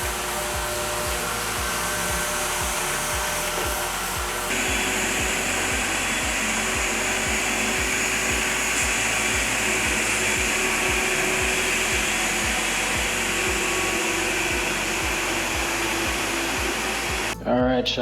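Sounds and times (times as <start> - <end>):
pad scrubbing floor: 0.0 - 17.4
floor machine motor hum: 0.0 - 17.8.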